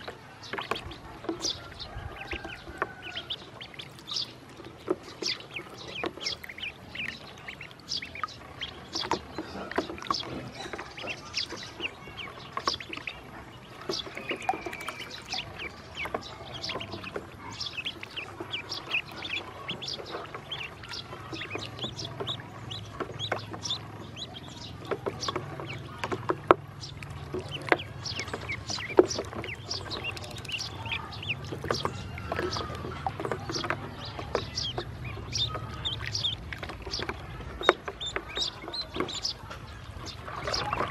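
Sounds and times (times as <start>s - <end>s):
ducklings peeping: 0.0s - 40.9s
water splashing in tub: 0.0s - 40.9s.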